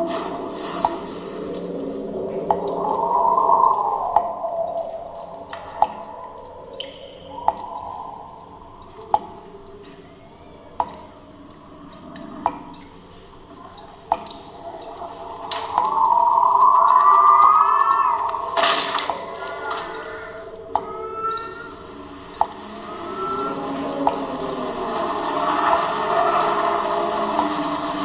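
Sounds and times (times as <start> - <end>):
low eerie drone: 0.0 - 28.0
water drops plinking: 0.8 - 26.4.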